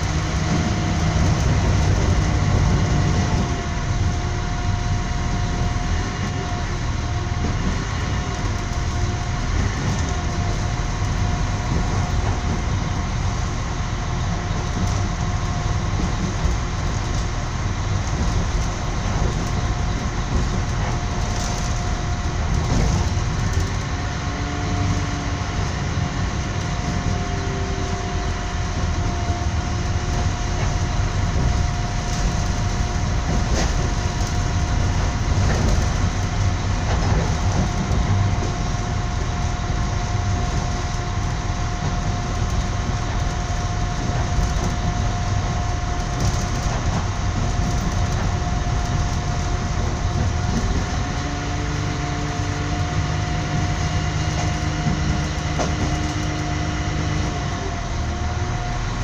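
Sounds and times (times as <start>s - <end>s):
constant hum: 0.0s - 59.0s
train wheels rumbling on rails: 0.0s - 59.0s.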